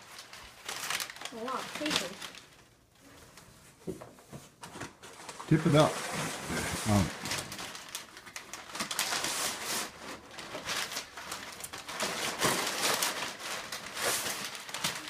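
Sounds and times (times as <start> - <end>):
packing paper rustling: 0.0 - 15.0.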